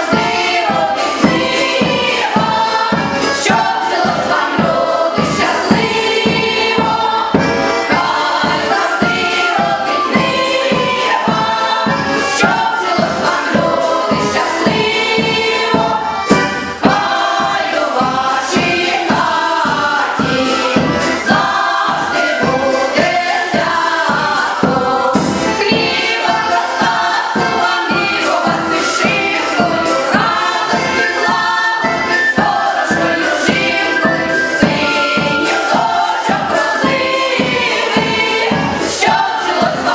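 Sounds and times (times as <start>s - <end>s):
choir singing: 0.0s - 39.9s
instrumental backing with steady beat: 0.0s - 39.9s.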